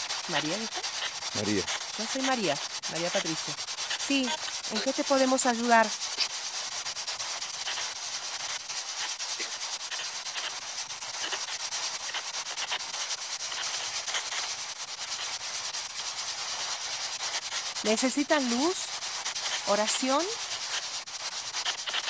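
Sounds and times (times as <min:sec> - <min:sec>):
fast clicks: 0:00.0 - 0:22.0
radio static hiss: 0:00.0 - 0:22.0.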